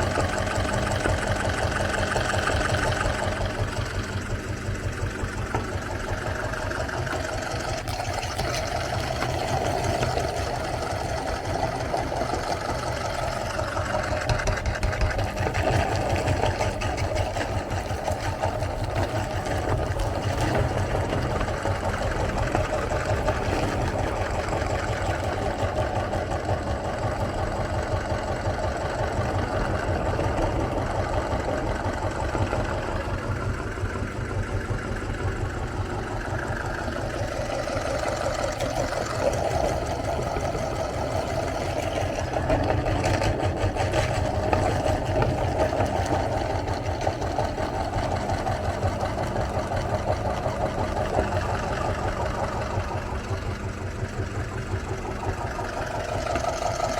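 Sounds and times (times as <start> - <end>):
electric meat grinder motor: 0.0 - 33.8, 34.8 - 56.9.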